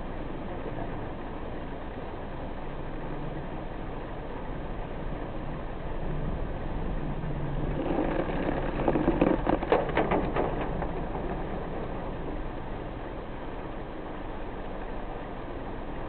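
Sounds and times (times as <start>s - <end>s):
road noise inside moving car: 0.0s - 16.0s
steady rain: 0.0s - 16.0s.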